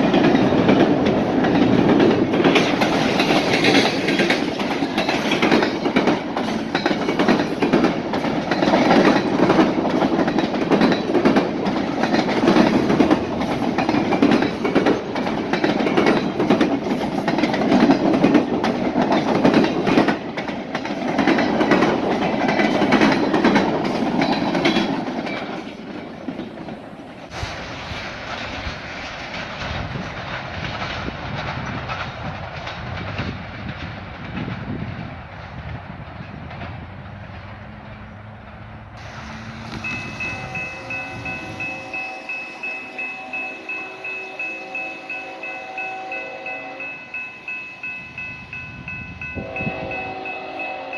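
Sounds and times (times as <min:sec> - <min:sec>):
train wheels clicking over rails: 0:00.0 - 0:45.9
train rumble: 0:00.0 - 0:50.9.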